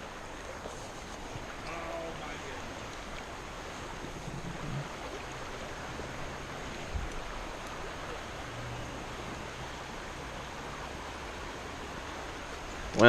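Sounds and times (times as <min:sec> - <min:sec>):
fast-flowing creek rushing: 0:00.0 - 0:13.0.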